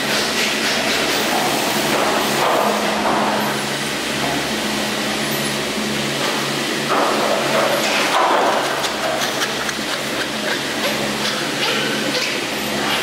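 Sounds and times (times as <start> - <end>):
chairlift mechanical hum: 0.0 - 13.0.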